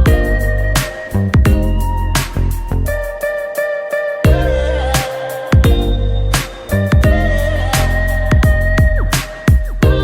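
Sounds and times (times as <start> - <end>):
heavy bass line: 0.0 - 3.2, 4.3 - 5.0, 5.6 - 10.0
steady electronic beat: 0.0 - 3.7, 4.3 - 10.0
held synth melody: 0.0 - 9.1.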